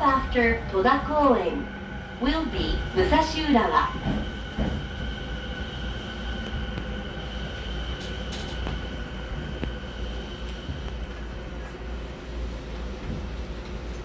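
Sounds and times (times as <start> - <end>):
electric train whine: 0.0 - 14.0
wheels rumbling on rail: 0.0 - 14.0.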